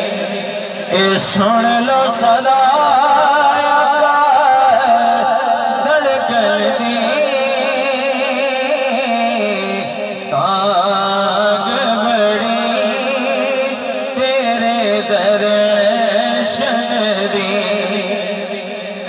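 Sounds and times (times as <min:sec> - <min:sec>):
man singing through loudspeaker: 0:00.0 - 0:19.0.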